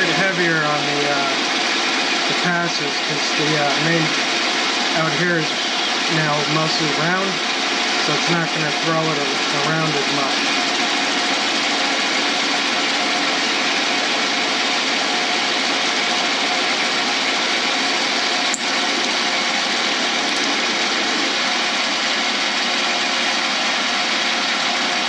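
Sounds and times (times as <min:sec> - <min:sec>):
lathe cutting whir: 0:00.0 - 0:25.0.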